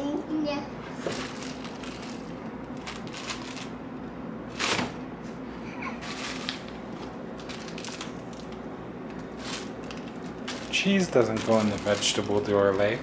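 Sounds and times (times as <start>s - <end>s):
refrigerator hum: 0.0s - 13.0s
food packaging rustling: 0.9s - 3.8s, 4.5s - 13.0s.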